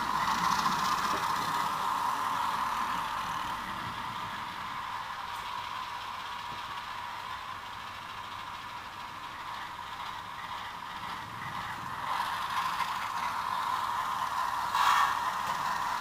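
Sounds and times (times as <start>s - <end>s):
model train motor whirring and clattering: 0.0s - 16.0s.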